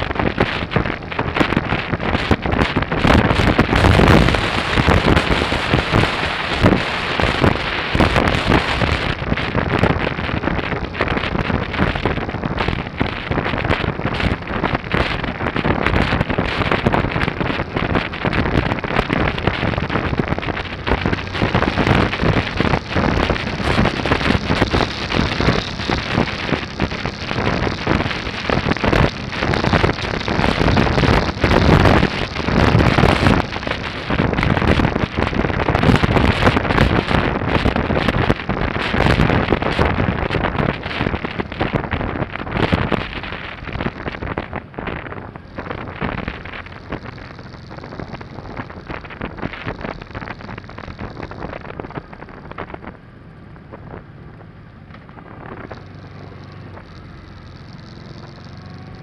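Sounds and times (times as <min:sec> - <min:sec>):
motorcycle running: 0:00.0 - 0:59.0
road noise: 0:00.0 - 0:59.0
wind buffeting microphone: 0:00.0 - 0:59.0.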